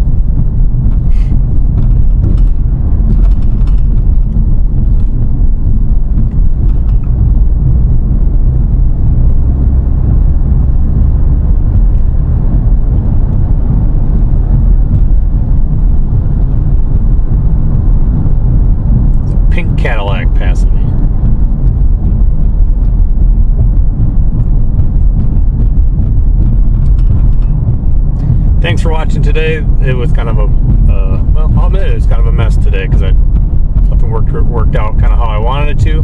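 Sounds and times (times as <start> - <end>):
vehicle driving rumble: 0.0 - 36.0.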